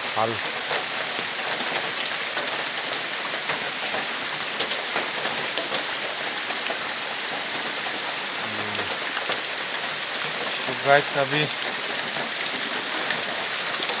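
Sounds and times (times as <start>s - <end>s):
heavy rain: 0.0s - 14.0s
raindrops ticking on surface: 0.0s - 14.0s.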